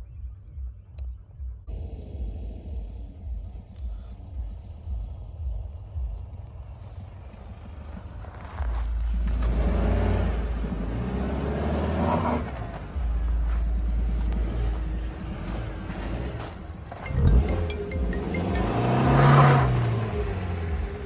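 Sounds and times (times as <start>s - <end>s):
car engine revving: 1.7s - 21.0s.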